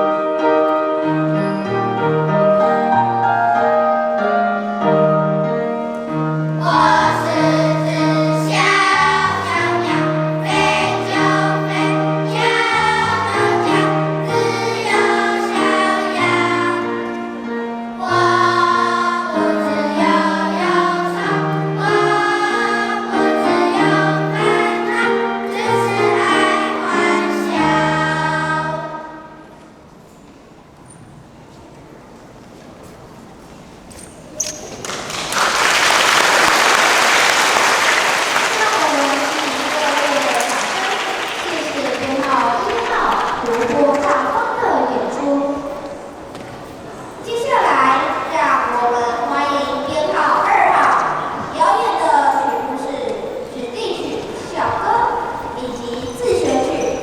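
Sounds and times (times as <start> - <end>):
children's choir singing: 0.0 - 29.9, 34.8 - 57.0
piano accompaniment: 0.0 - 32.0, 33.0 - 57.0.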